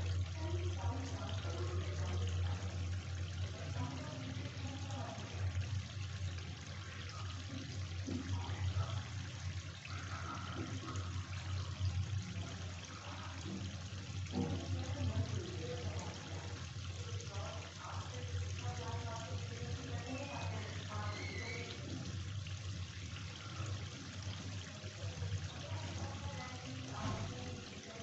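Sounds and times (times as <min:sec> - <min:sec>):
curry bubbling and sizzling: 0:00.0 - 0:28.0.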